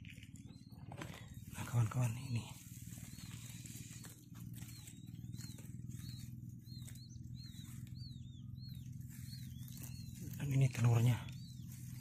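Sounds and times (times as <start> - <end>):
quail chicks peeping: 0.0 - 12.0
steady low hum: 0.0 - 12.0.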